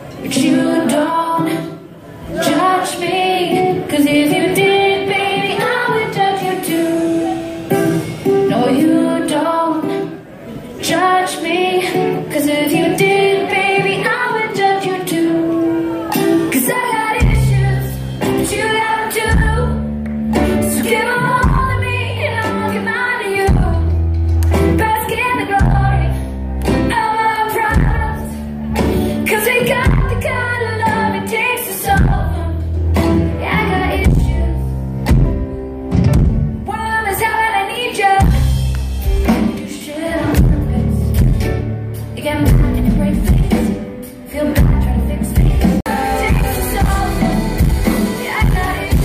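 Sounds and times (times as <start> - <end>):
woman singing: 0.2 - 10.2, 10.8 - 34.8, 36.7 - 49.0.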